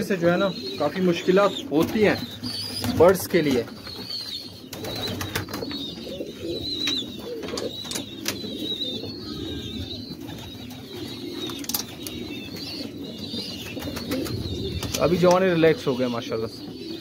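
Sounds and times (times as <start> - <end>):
birds clicking and tapping: 0.0 - 17.0
pigeons cooing: 0.0 - 17.0.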